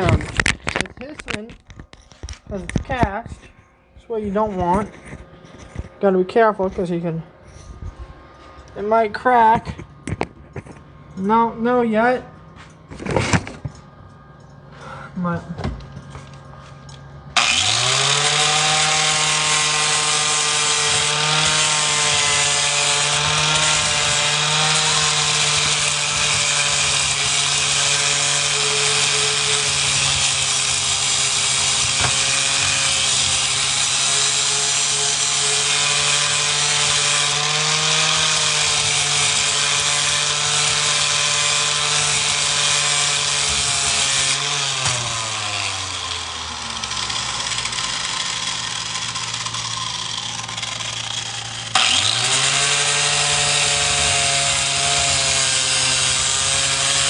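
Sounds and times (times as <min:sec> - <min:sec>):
angle grinder grinding metal: 0:00.0 - 0:57.0.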